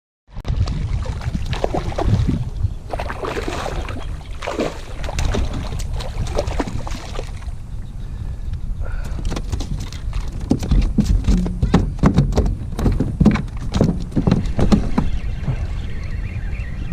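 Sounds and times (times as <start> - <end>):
water splashing against kayak hull: 0.4 - 7.6, 9.1 - 16.1
wind rumble on microphone: 0.4 - 16.9.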